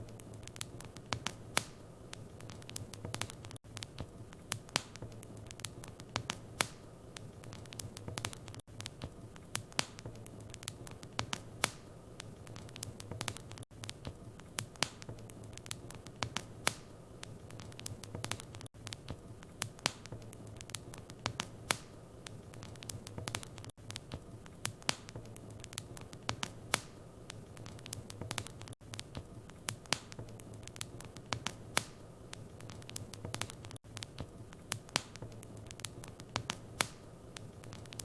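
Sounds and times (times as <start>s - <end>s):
soft hiss: 0.0s - 38.0s
wood fire crackling and popping: 0.0s - 38.0s.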